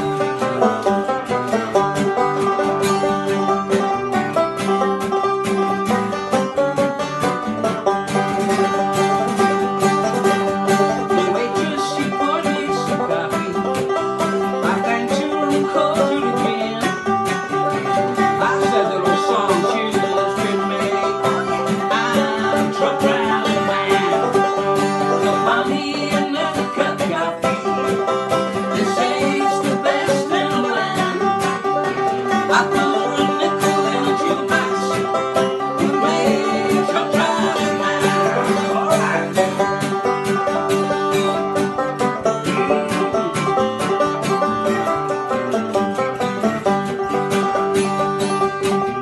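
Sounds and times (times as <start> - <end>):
banjo and guitar picking: 0.0 - 49.0.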